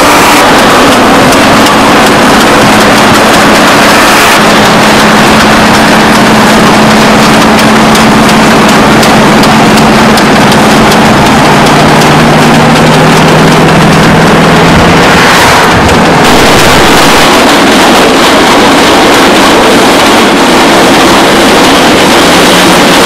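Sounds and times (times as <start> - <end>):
van engine drone: 0.0 - 23.0
wind and road noise: 0.0 - 23.0.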